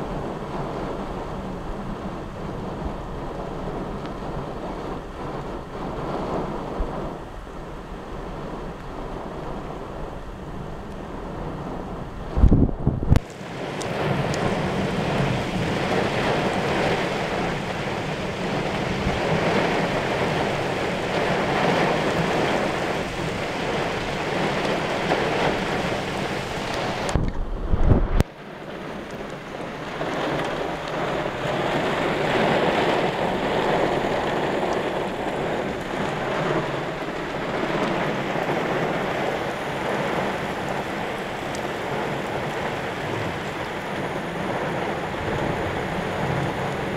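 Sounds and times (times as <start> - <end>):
gusting storm wind: 0.0 - 46.9
heavy rain: 0.0 - 46.9
wind buffeting microphone: 0.0 - 46.9.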